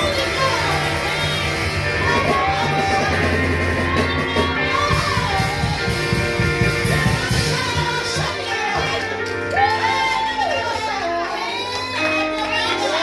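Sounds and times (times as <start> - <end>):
music accompaniment with pulsing beat: 0.0 - 10.6
gospel group singing: 0.0 - 13.0.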